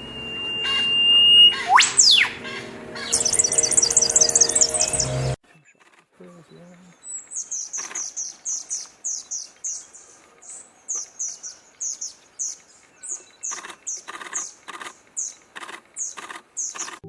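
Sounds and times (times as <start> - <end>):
small bird chirping rapidly: 3.0 - 17.0.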